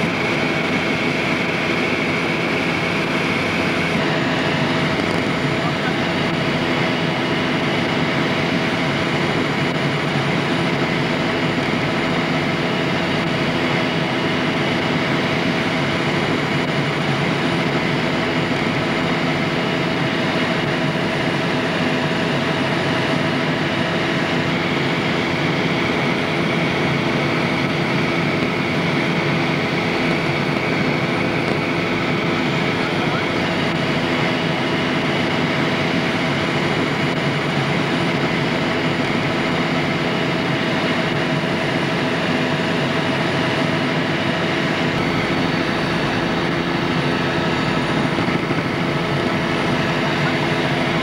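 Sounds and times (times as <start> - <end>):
helicopter engine and rotor: 0.0 - 51.0.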